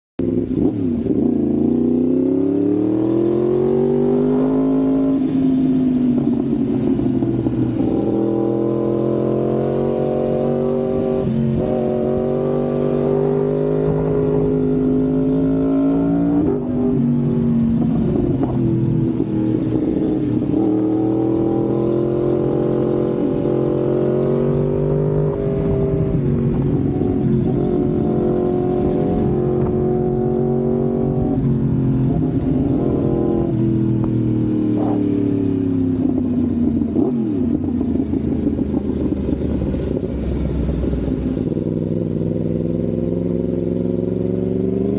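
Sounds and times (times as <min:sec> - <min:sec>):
motorcycle engine revving: 0:00.2 - 0:44.9.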